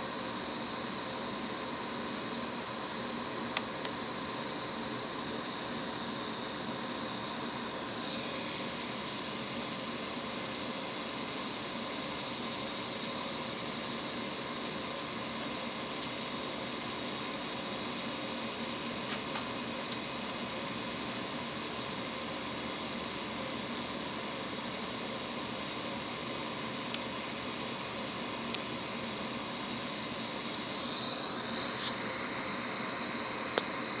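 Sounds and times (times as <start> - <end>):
hard drive high-pitched whine: 0.0 - 34.0.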